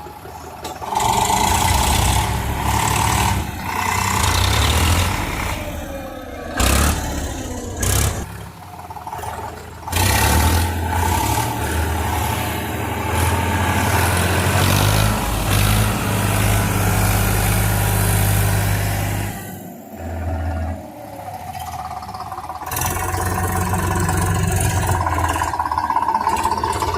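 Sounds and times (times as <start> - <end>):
tractor engine revving under load: 0.0 - 26.9.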